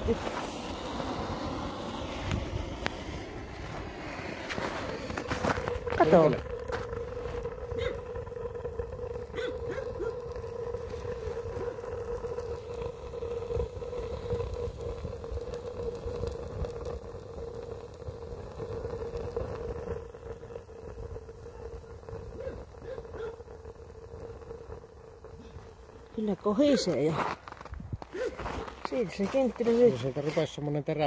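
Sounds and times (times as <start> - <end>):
steady hum: 0.0 - 26.8
fire roaring: 0.0 - 31.0.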